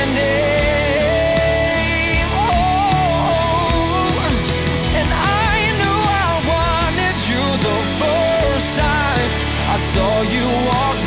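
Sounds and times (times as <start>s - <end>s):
love song with guitar: 0.0s - 11.0s.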